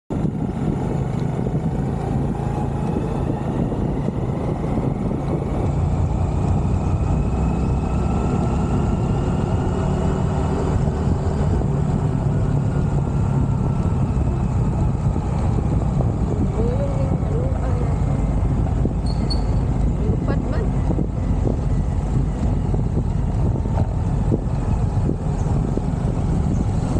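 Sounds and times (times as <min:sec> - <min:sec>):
vehicle engine and road rumble: 0:00.1 - 0:26.9.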